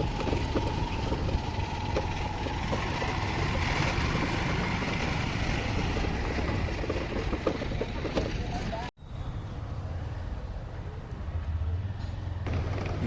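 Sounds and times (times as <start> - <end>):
engine rumbling with whine: 0.0 - 13.0.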